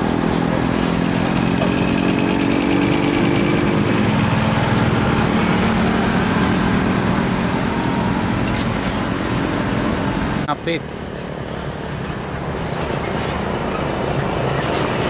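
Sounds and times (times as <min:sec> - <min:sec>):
diesel engine drone: 0:00.0 - 0:15.0
road noise: 0:00.0 - 0:15.0.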